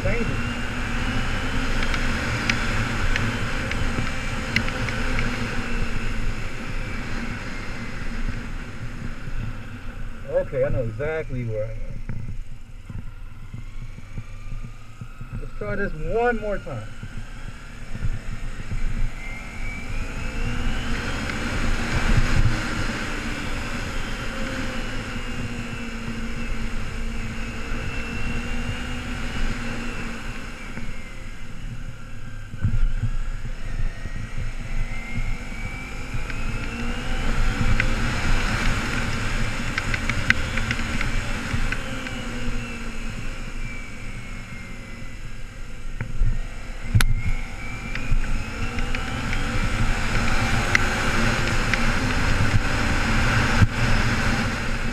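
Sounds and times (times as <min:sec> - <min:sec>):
motorcycle engine accelerating: 0:00.0 - 0:54.9
wind rumble on microphone: 0:00.0 - 0:54.9.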